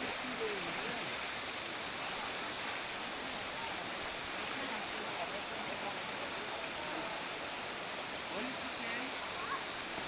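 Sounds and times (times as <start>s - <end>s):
stream rushing over stones: 0.0s - 10.0s.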